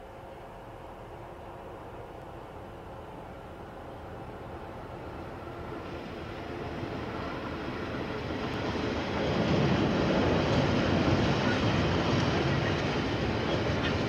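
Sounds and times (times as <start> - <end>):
diesel freight train rumbling past: 0.0 - 14.0.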